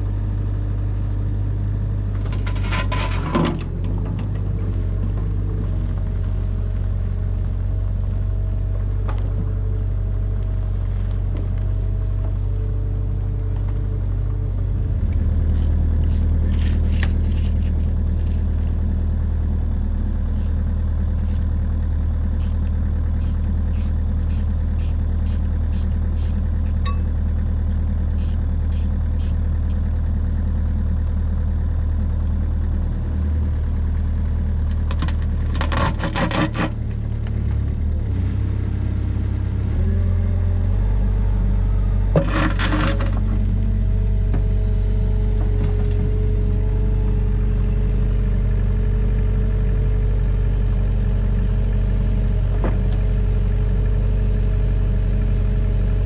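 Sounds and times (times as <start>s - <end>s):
construction machine engine running: 0.0s - 56.0s.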